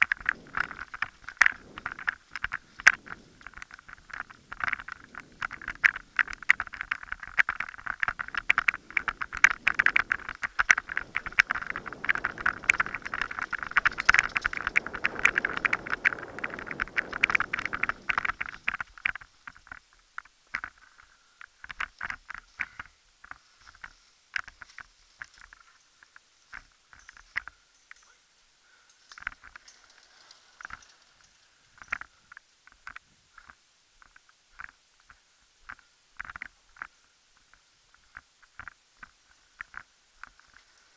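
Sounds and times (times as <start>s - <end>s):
bike chain and frame rattling: 0.0s - 34.8s.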